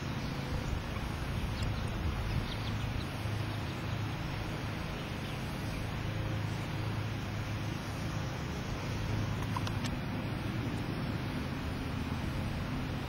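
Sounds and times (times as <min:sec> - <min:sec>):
low outdoor rumble and hum: 0:00.0 - 0:13.0.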